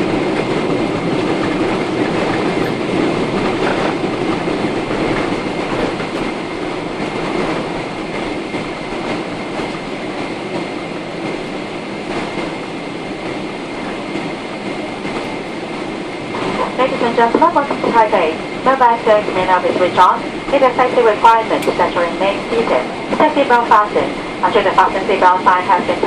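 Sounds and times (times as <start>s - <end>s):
aircraft cabin rumble and rattling: 0.0s - 26.0s.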